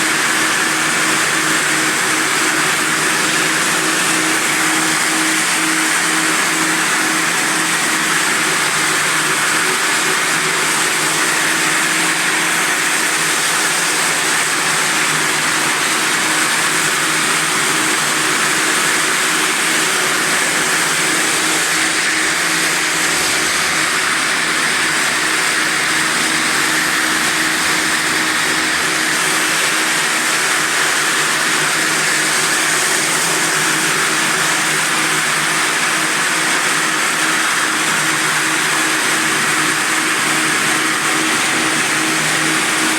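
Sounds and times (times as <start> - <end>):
floor sander grinding: 0.0 - 42.9.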